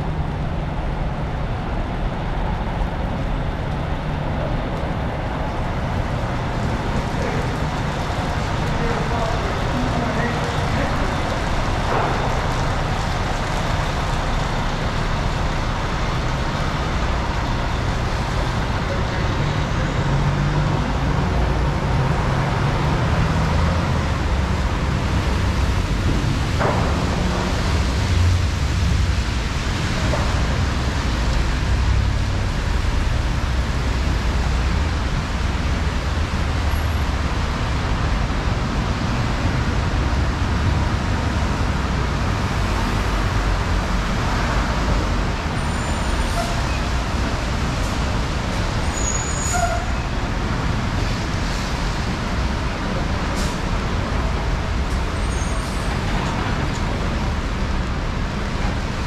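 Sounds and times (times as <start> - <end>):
traffic on wet pavement: 0.0 - 59.0.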